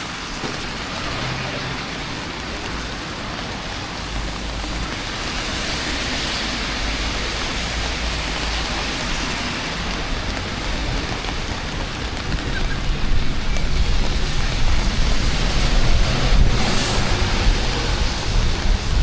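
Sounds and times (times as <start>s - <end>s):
rain falling on street: 0.0s - 19.0s.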